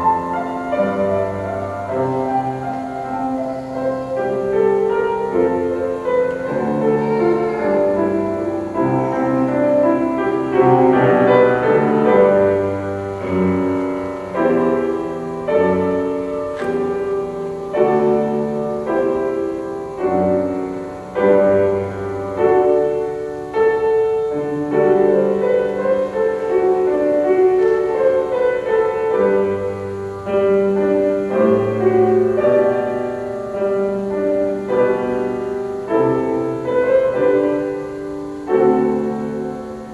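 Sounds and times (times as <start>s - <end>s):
piano chords: 0.0s - 39.9s.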